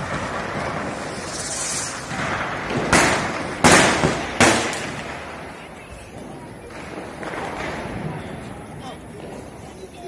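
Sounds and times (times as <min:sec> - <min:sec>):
firecracker bangs with echo: 0:00.0 - 0:05.6, 0:06.2 - 0:09.6.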